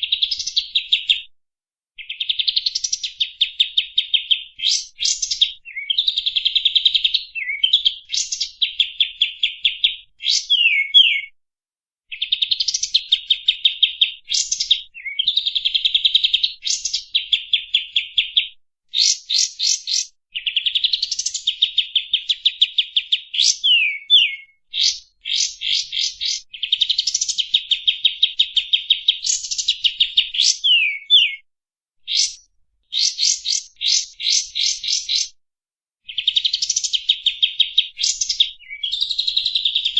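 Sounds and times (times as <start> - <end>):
songbird trilling and whistling: 0.0 - 1.3, 2.0 - 11.3, 12.1 - 31.4, 32.1 - 35.4, 36.1 - 39.9.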